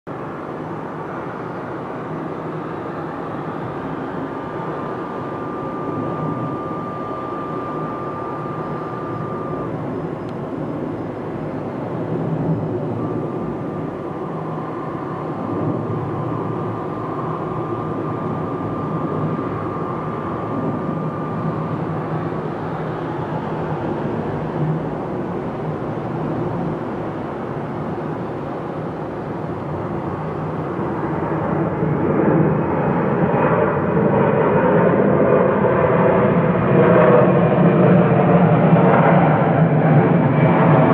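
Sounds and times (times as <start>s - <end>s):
jet engine rumble: 0.1s - 40.9s
thin jet whine: 0.1s - 40.9s.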